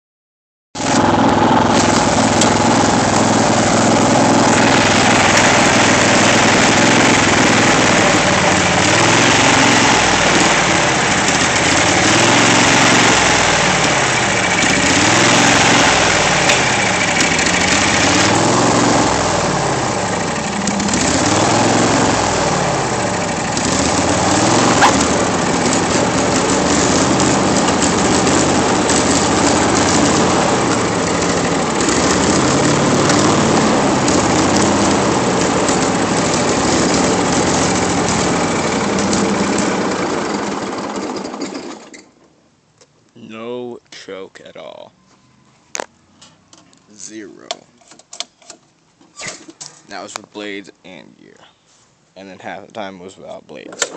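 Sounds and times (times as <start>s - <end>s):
lawn mower engine hunting: 0.8s - 53.9s.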